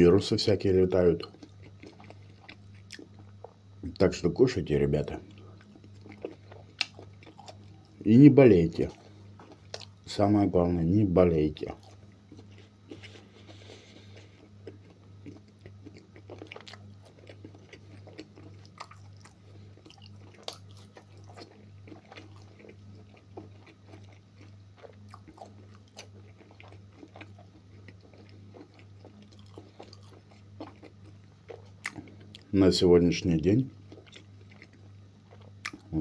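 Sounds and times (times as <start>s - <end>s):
person chewing food: 1.2s - 3.6s, 5.2s - 8.1s, 8.8s - 10.0s, 11.6s - 32.5s, 33.7s - 36.0s.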